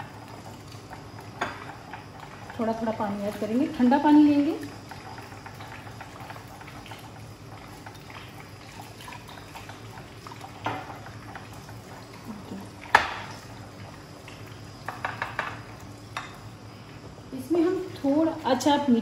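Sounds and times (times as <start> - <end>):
water being poured: 0.0 - 16.0.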